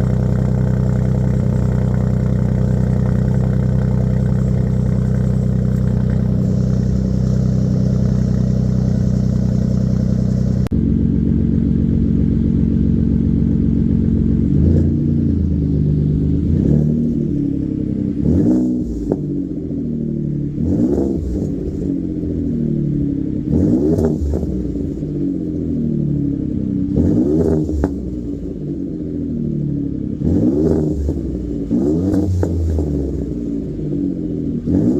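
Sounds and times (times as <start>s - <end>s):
truck engine idling and revving: 0.0s - 34.9s.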